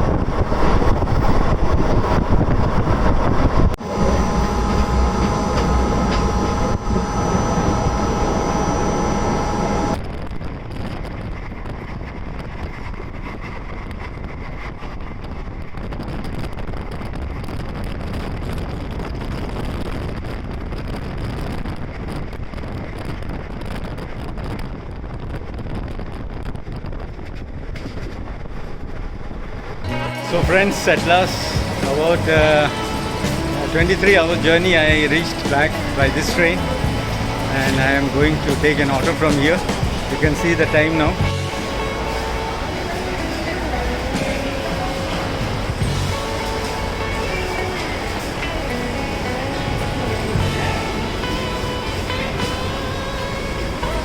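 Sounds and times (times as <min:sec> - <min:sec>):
passenger train rumbling: 0:00.0 - 0:54.0.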